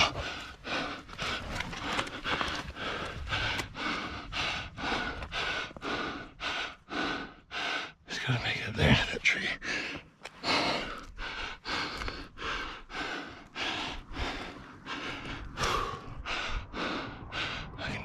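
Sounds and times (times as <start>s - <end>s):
person panting: 0.0s - 8.1s, 9.6s - 18.0s.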